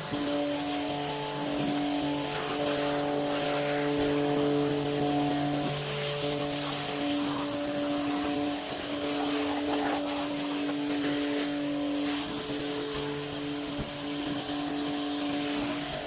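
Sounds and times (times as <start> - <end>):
electric pump hum: 0.0 - 16.0
water jet hissing: 0.0 - 16.0.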